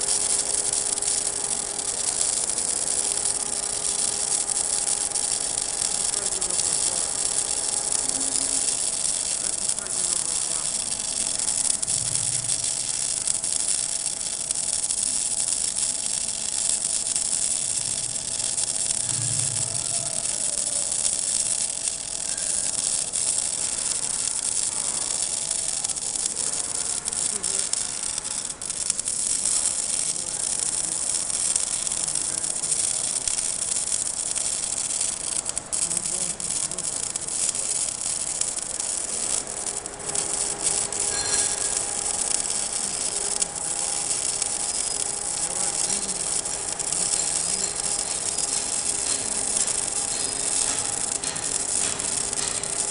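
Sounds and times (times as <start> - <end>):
arc welding crackling hiss: 0.0 - 52.9.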